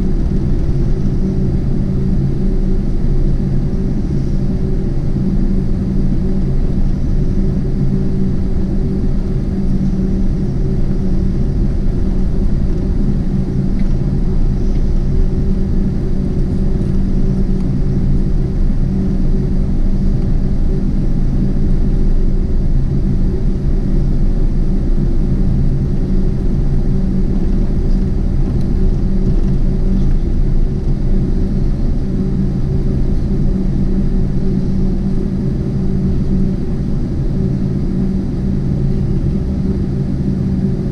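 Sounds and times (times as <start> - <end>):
vehicle rumble with low hum: 0.0 - 40.9.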